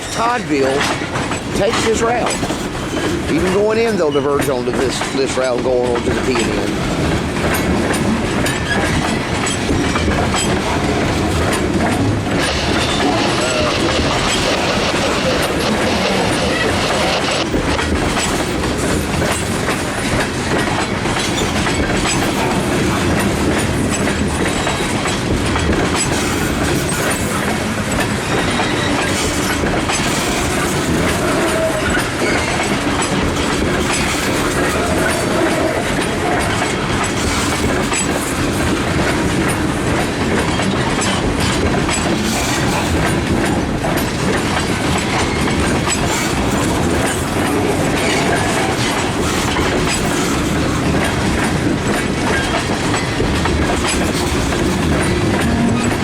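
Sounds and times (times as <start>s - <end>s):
train wheels clacking over rail joints: 0.0s - 56.0s.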